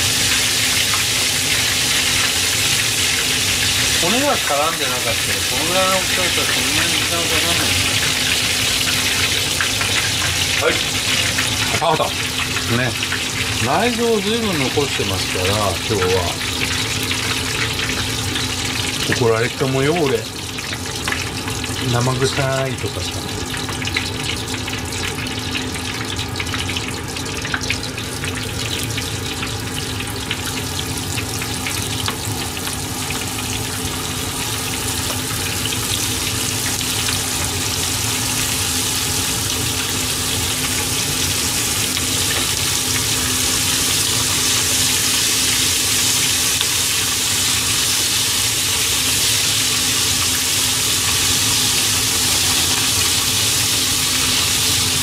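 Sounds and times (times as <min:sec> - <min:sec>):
fish sizzling in hot oil: 0:00.0 - 0:55.0.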